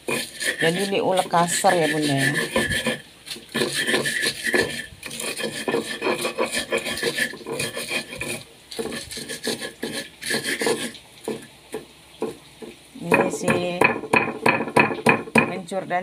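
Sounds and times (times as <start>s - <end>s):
stone pestle grinding on stone: 0.0s - 11.5s, 12.2s - 15.6s.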